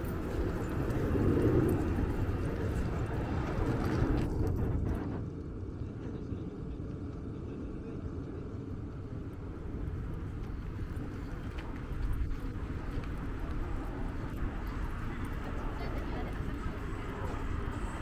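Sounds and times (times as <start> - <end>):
city street low rumble: 0.0 - 18.0.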